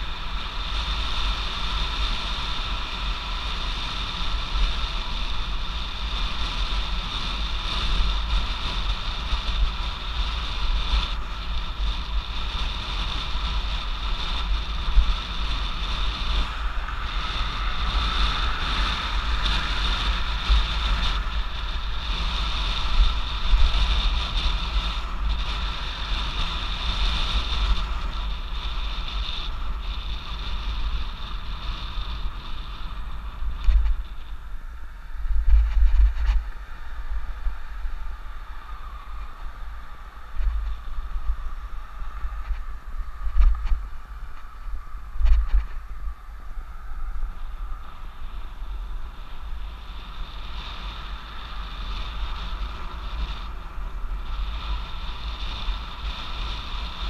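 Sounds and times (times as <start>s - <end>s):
high-pitched motor whine: 0.0s - 57.0s
wind buffeting microphone: 0.0s - 57.0s.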